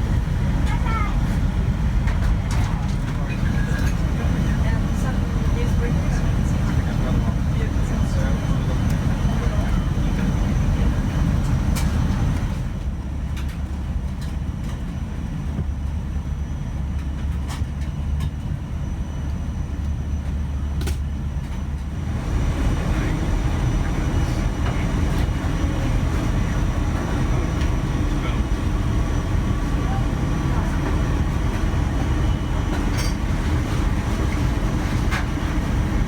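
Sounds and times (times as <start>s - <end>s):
aircraft cabin rumble: 0.0s - 36.0s.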